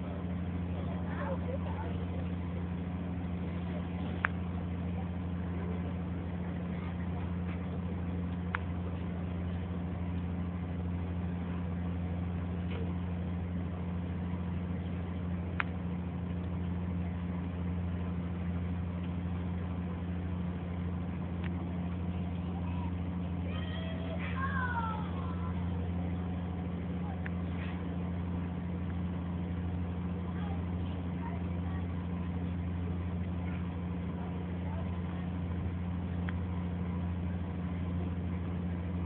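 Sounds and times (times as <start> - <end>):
ship engines droning: 0.0 - 39.0.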